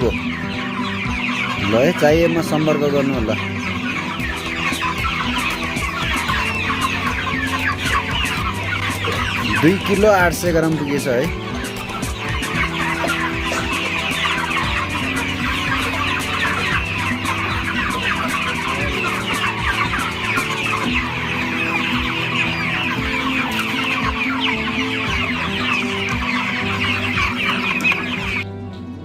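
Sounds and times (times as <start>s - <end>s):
background music with low notes: 0.0s - 29.0s
chickens clucking: 0.0s - 29.0s.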